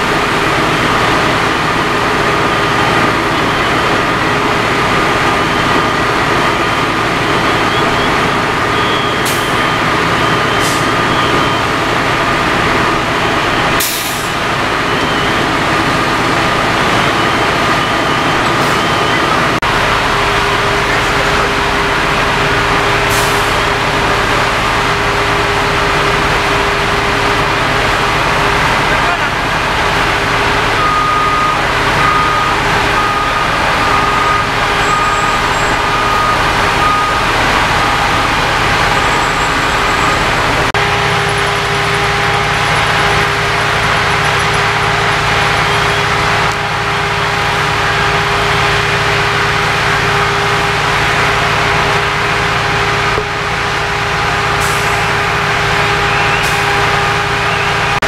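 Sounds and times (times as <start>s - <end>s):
fire engine running at high revs: 0.0s - 58.0s.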